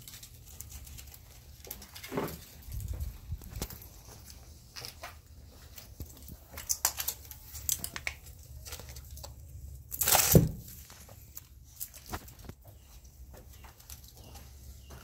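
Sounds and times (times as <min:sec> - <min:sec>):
wax paper crinkling: 0:00.0 - 0:14.8.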